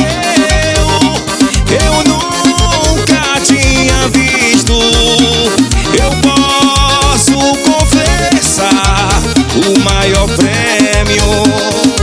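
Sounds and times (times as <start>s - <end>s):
instrumental band music: 0.0s - 12.0s.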